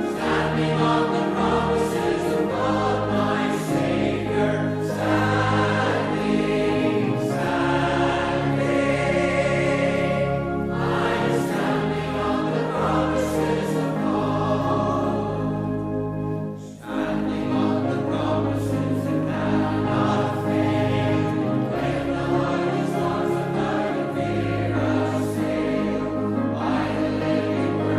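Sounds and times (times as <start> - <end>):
choir singing a hymn: 0.0 - 27.9.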